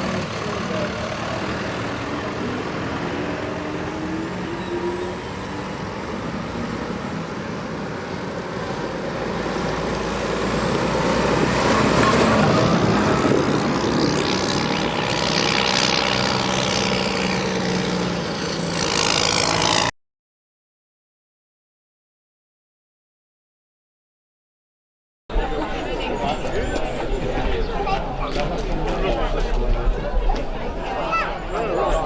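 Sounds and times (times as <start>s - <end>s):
tractor engines driving past: 0.0s - 19.9s, 25.3s - 32.0s.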